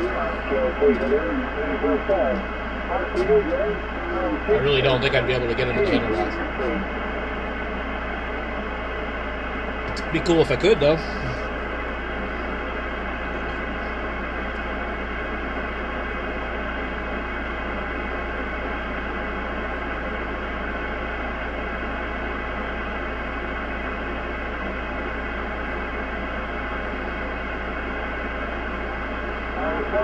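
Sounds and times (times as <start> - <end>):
low hum: 0.0 - 30.0
radio static hiss: 0.0 - 30.0.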